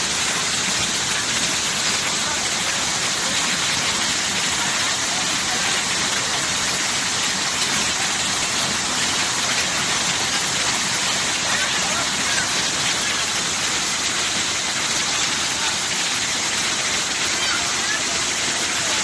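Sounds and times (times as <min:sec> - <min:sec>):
waterfalls rushing: 0:00.0 - 0:19.0.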